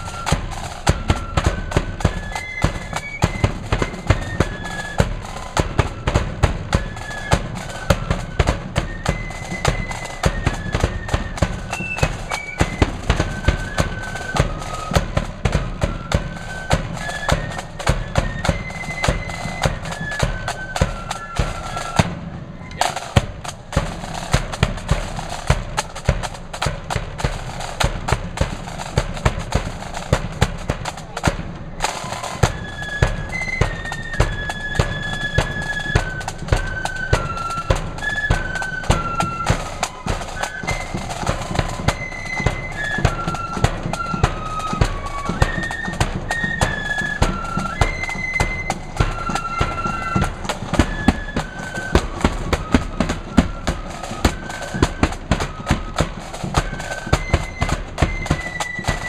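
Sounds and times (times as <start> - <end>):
flutes playing melody: 0.0 - 59.0
rapid snare drum rolls: 0.0 - 59.0.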